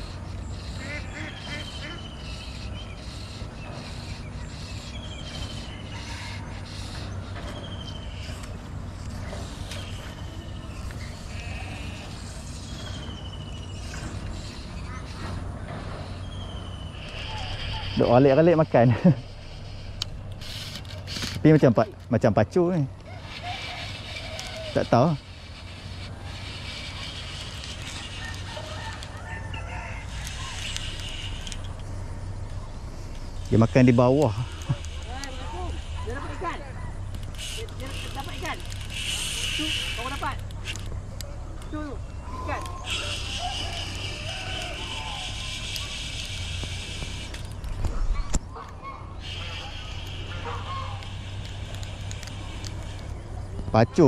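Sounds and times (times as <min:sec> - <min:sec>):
animal calling: 0:00.0 - 0:21.7, 0:23.0 - 0:31.7, 0:33.5 - 0:40.9, 0:41.6 - 0:53.2
outdoor background noise: 0:00.0 - 0:54.0
steady low hum: 0:00.0 - 0:54.0.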